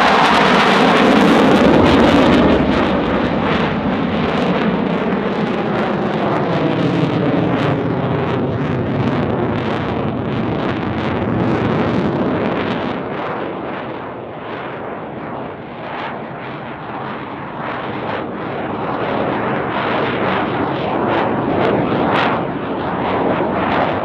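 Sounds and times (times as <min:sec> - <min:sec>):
loud jet roar with crackle: 0:00.0 - 0:24.0.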